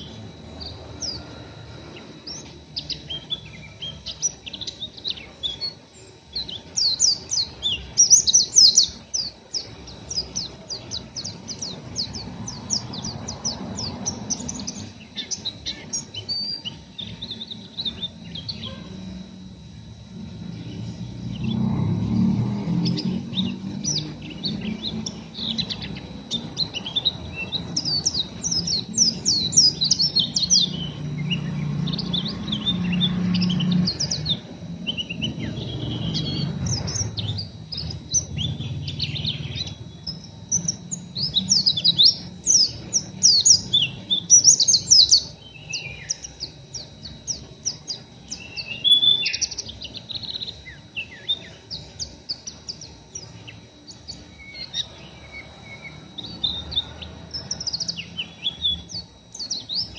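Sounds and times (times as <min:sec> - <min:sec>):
birds twittering chirps: 0:00.0 - 0:59.9.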